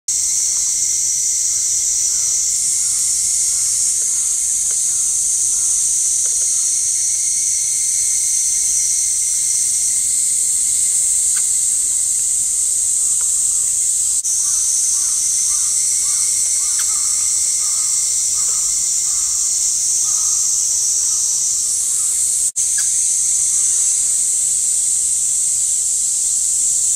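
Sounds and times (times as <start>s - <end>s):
high-pitched insect chorus: 0.1s - 26.9s.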